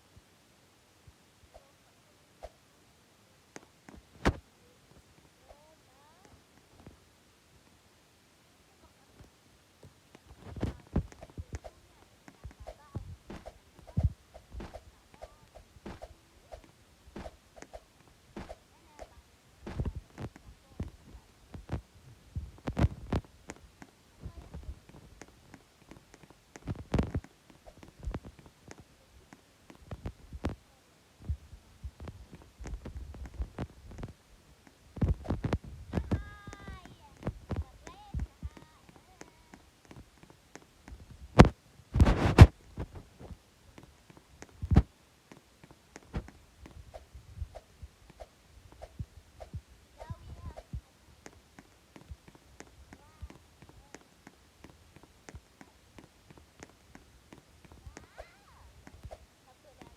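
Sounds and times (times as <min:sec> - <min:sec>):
soft thumps and clicks: 0:03.6 - 0:04.4, 0:10.1 - 0:30.6, 0:31.2 - 0:58.2.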